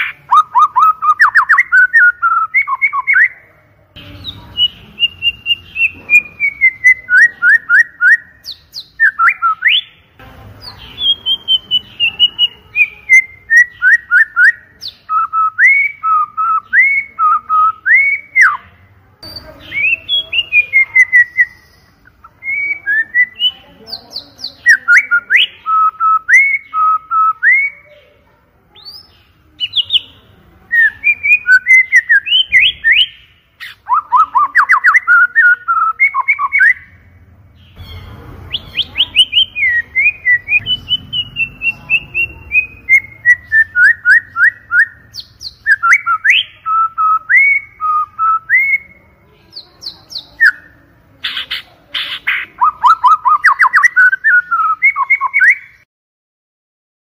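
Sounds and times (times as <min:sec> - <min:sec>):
bird singing whistled notes: 0:00.0 - 0:10.0, 0:10.6 - 0:28.0, 0:28.8 - 0:37.0, 0:37.6 - 0:55.9.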